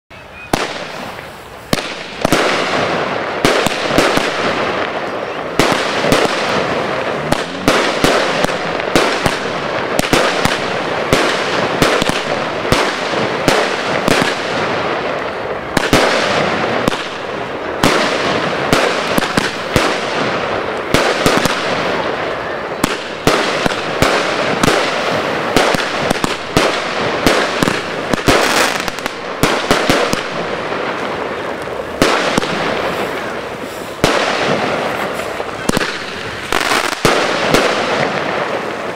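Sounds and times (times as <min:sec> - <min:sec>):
fireworks hiss: 0:00.2 - 0:38.9
fireworks shots and pops: 0:00.4 - 0:38.9.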